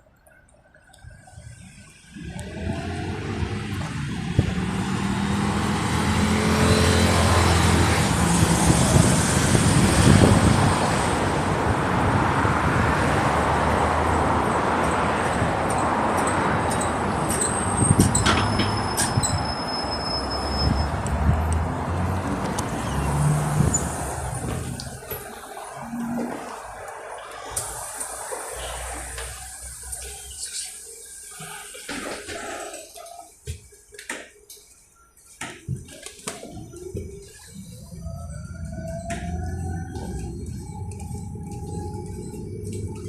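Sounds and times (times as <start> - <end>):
road and tyre noise: 0.0 - 43.0.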